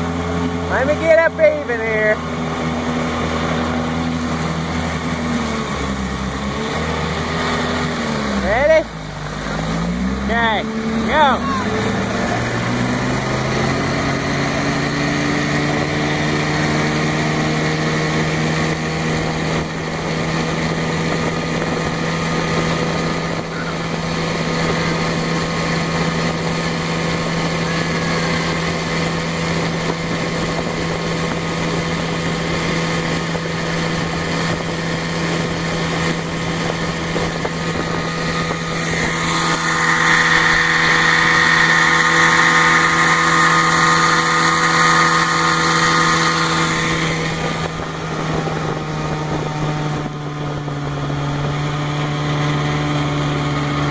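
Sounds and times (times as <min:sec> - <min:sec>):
boat engines racing: 0:00.0 - 0:53.9
water rushing past hulls: 0:00.0 - 0:53.9.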